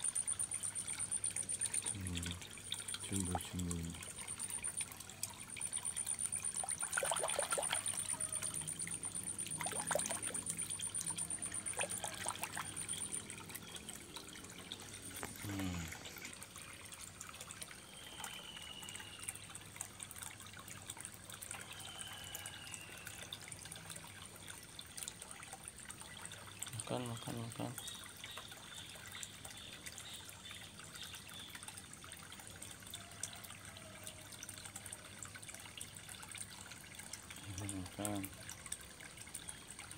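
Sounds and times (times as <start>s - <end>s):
pond water trickling: 0.0s - 39.9s.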